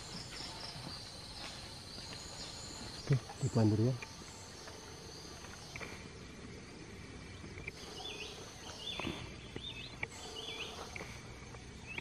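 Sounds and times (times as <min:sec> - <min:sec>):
forest background hiss: 0:00.0 - 0:12.0.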